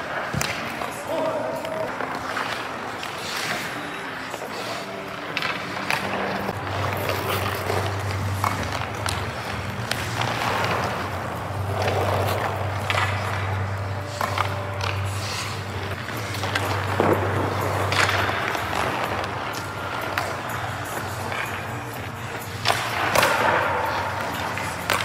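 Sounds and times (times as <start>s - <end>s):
skates scraping on ice: 0.0s - 25.0s
stick and puck clacks: 0.0s - 25.0s.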